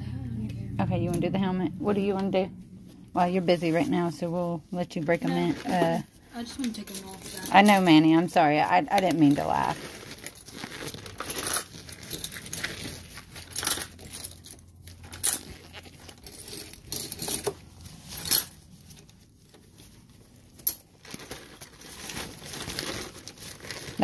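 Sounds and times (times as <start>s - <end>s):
plastic crinkling: 3.2s - 24.0s.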